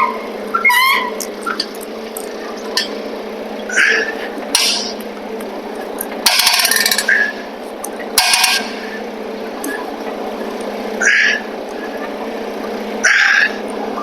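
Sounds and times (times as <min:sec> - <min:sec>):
forklift engine idling: 0:00.0 - 0:14.0
rapid clicking of forklift jack: 0:00.0 - 0:14.0.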